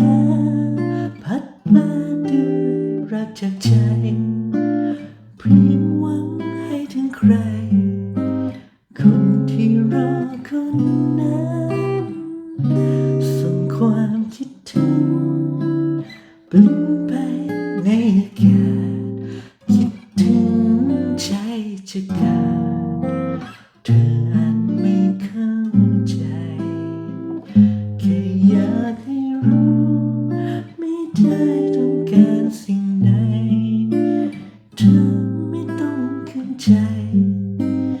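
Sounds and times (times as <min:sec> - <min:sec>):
acoustic guitar playing: 0:00.0 - 0:38.0.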